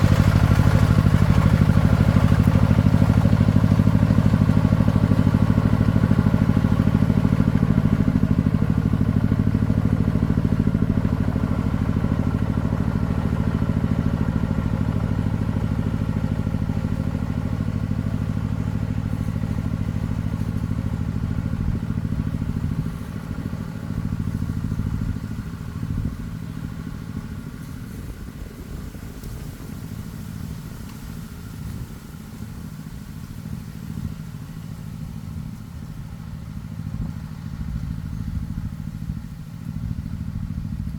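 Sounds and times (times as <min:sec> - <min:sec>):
single-cylinder diesel engine running: 0:00.0 - 0:40.9.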